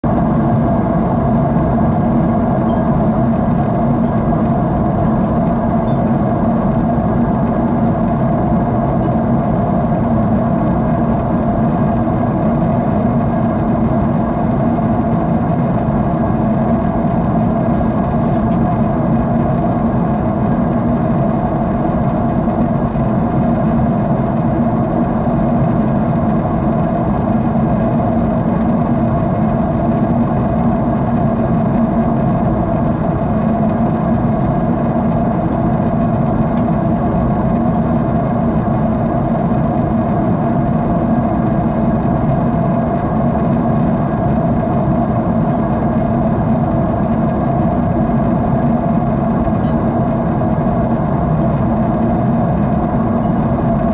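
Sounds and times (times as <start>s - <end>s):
jet engines drone in cabin: 0.0s - 53.9s.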